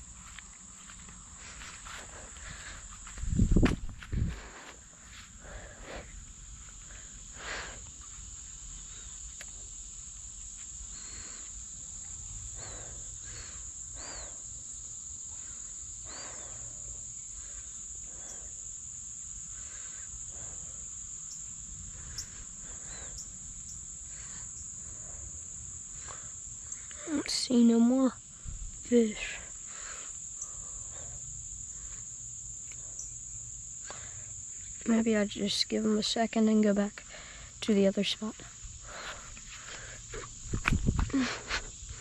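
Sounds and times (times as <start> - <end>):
rustles: 0.0 - 35.0, 36.9 - 42.0
insects trilling: 0.0 - 42.0.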